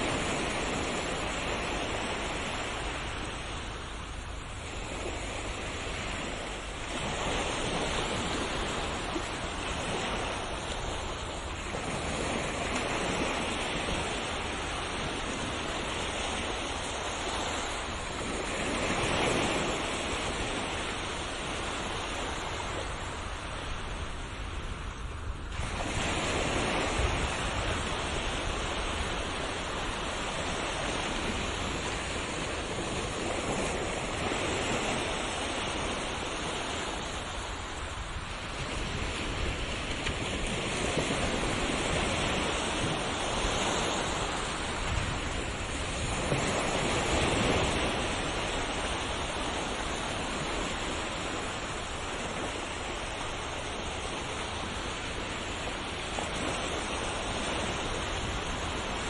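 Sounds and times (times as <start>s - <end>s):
waves washing onto shore: 0.0s - 59.0s.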